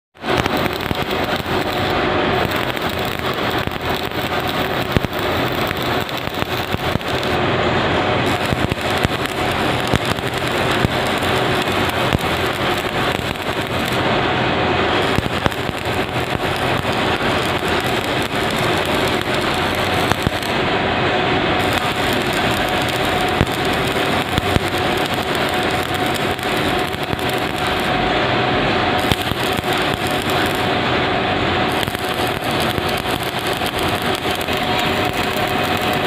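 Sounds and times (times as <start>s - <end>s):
faint hum: 0.2s - 36.0s
welding arc crackling: 0.2s - 36.0s.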